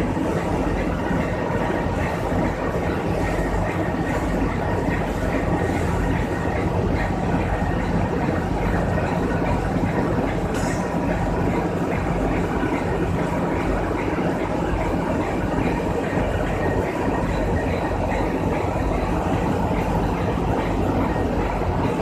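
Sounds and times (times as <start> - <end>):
industrial machinery drone: 0.0 - 22.0.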